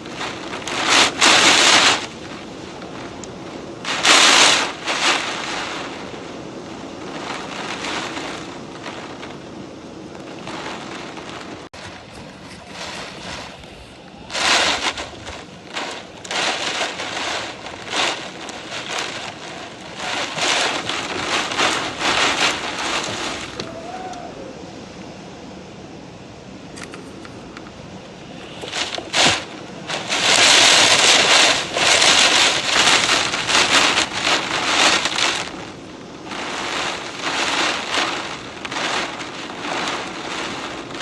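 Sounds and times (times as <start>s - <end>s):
rain rushing: 0.0s - 41.0s
wind gusts: 0.0s - 41.0s.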